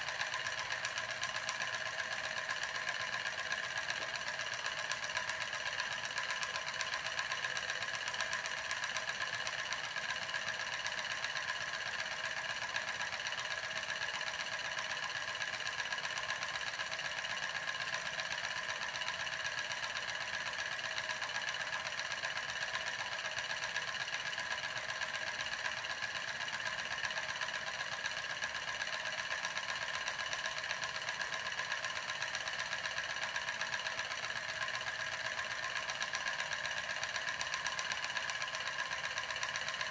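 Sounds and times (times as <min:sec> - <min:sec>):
small turbine whirring and rattling: 0:00.0 - 0:39.9.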